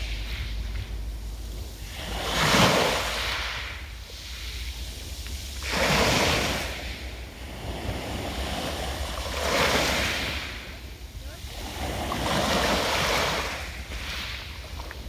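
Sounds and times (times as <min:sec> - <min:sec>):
waves breaking on pebbles: 0:00.0 - 0:15.0.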